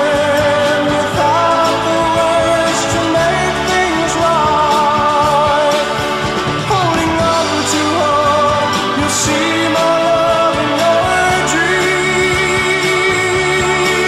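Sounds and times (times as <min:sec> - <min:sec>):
rock ballad recording: 0:00.0 - 0:14.0.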